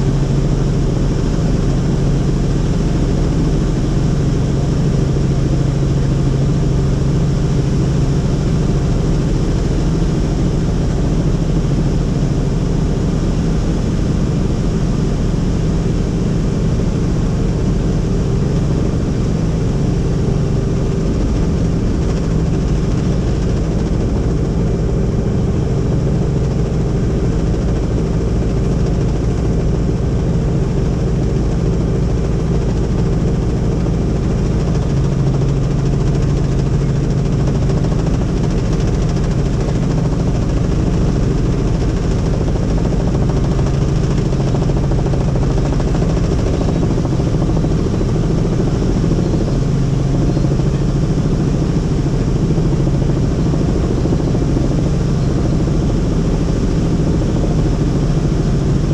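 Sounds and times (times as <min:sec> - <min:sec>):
helicopter engine and rotor drone: 0:00.0 - 0:58.9.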